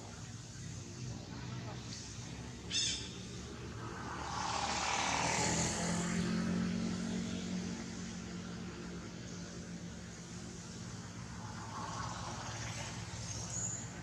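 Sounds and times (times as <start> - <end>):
motor engine passing by: 0.3 - 14.0.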